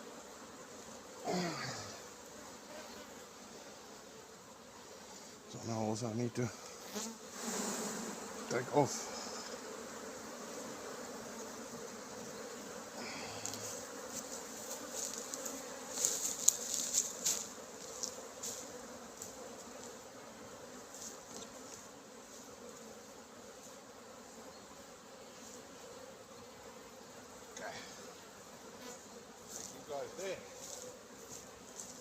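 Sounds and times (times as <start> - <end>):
honeybees humming: 0.0 - 32.0.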